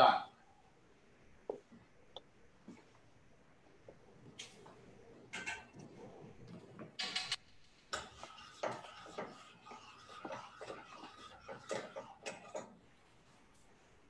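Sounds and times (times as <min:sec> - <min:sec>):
water boiling with pops: 0:01.4 - 0:13.8.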